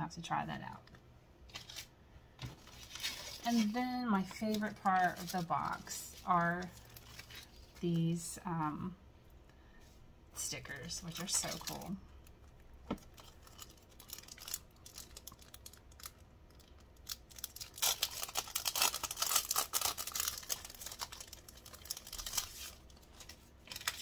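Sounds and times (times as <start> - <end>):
plastic sleeves crinkling: 1.5 - 8.3, 10.5 - 24.0.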